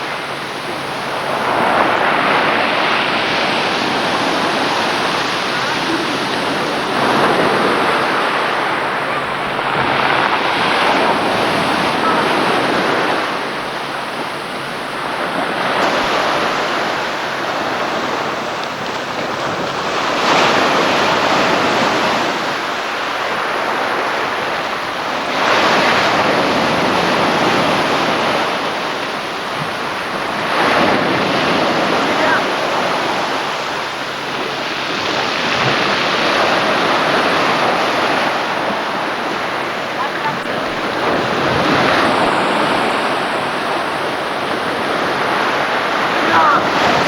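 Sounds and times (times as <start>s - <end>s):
waves washing onto shore: 0.0s - 47.0s.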